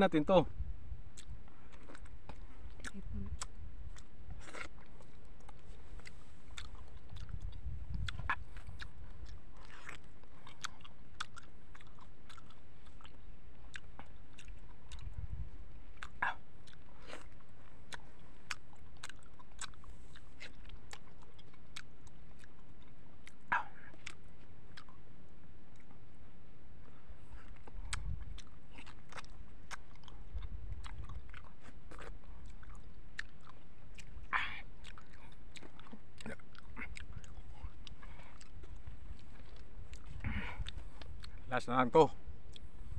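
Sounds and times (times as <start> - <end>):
person eating mango: 1.0 - 41.5, 42.1 - 42.9
wet chewing smacks and clicks: 1.1 - 42.9.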